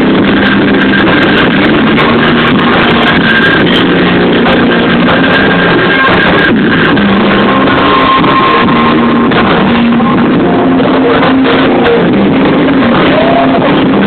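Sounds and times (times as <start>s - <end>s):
live rock band: 0.0s - 14.0s.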